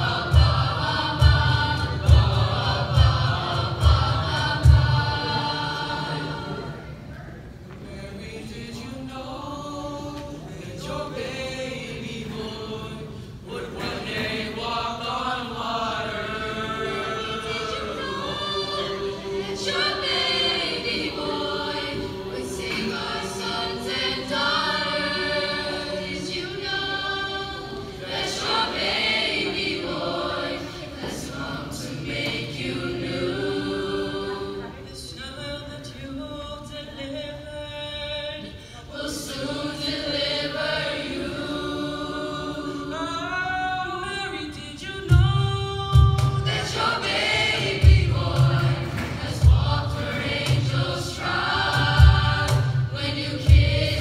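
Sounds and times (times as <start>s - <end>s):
mixed choir singing a carol: 0.0s - 54.0s.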